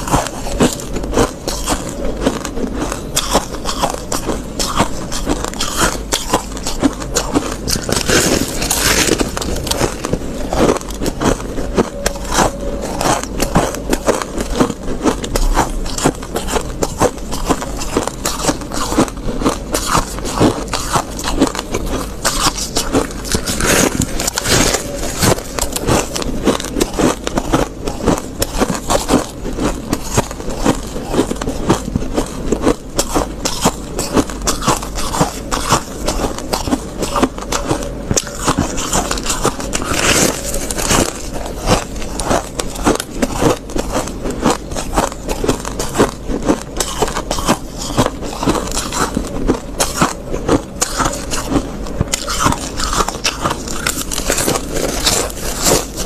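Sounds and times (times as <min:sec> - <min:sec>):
frost being chewed crunching: 0:00.0 - 0:56.0.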